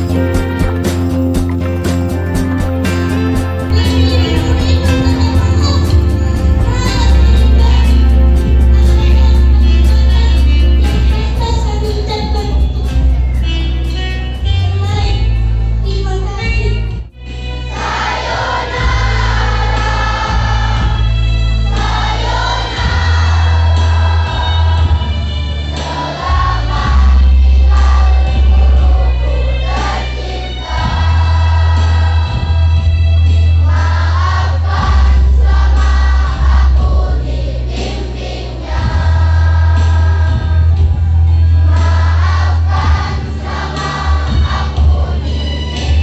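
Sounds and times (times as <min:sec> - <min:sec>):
music with heavy bass: 0:00.0 - 0:46.0
children's choir singing: 0:03.7 - 0:14.8, 0:17.3 - 0:46.0.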